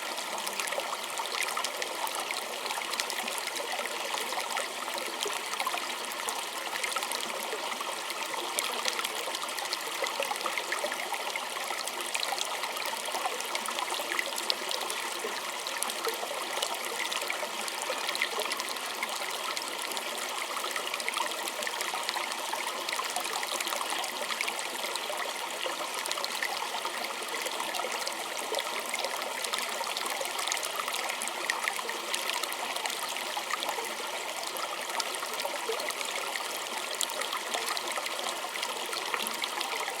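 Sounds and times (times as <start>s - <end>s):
small stream trickling: 0.0s - 40.0s.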